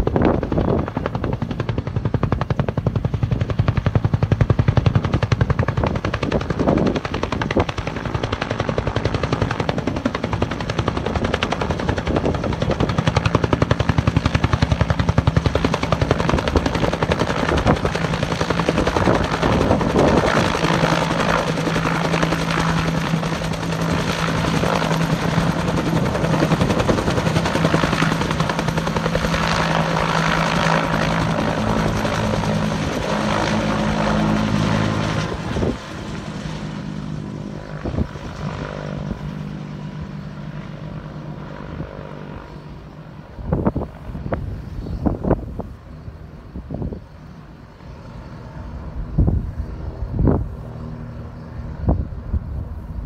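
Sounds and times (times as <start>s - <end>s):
helicopter rotor blades chopping: 0.0s - 52.4s
helicopter engine hum: 0.0s - 53.0s.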